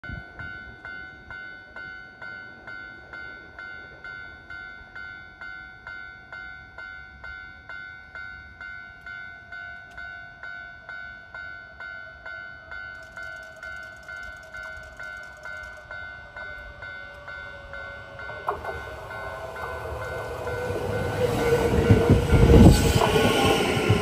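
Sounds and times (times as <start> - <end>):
level crossing warning bell ringing: 0.0 - 24.0.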